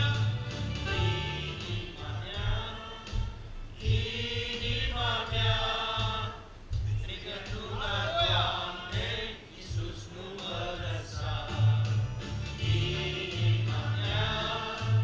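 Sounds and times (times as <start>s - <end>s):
worship song singing: 0.0s - 15.0s.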